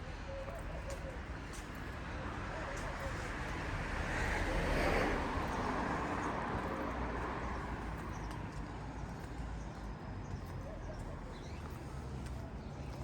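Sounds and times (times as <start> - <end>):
street ambience: 0.0 - 13.0.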